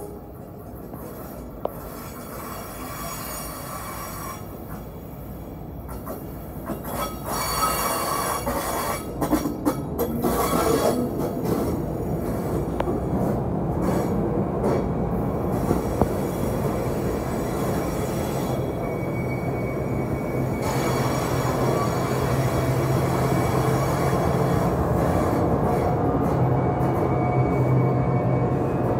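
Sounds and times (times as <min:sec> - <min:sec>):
train wheels on rails: 0:00.0 - 0:28.9.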